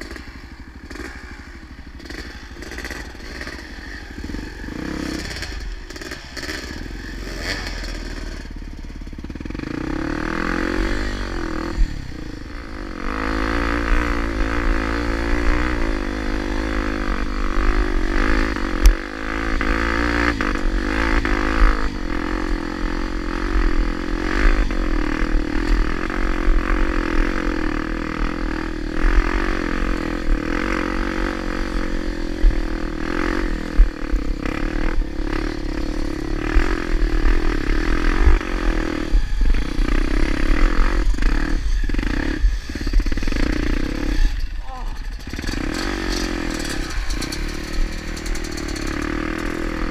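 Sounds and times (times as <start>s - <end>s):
motorcycle engine revving under load: 0.0s - 49.9s.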